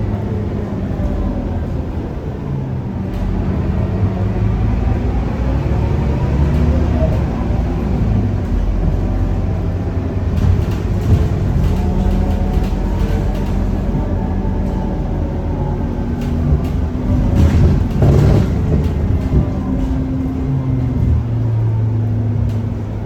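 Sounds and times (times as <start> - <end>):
bus diesel engine under load: 0.0 - 23.0.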